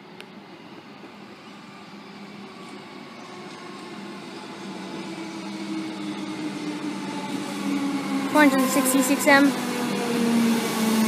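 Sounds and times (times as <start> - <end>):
electric train approaching: 0.0 - 11.0.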